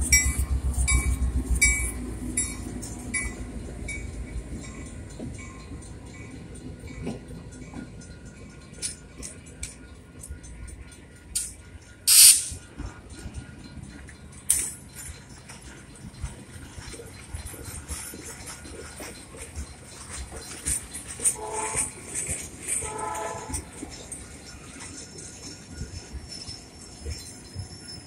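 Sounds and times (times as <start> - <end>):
clicks and clanks from wheels: 0.0 - 28.0
train cars rolling slowly: 0.0 - 28.0.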